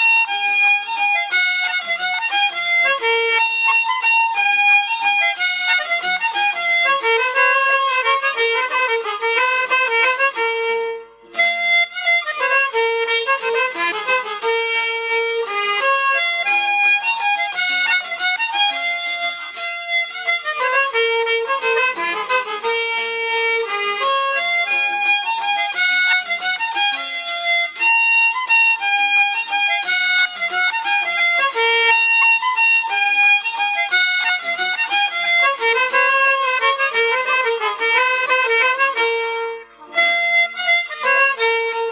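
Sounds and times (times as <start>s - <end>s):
fiddle-led instrumental waltz: 0.0s - 41.9s.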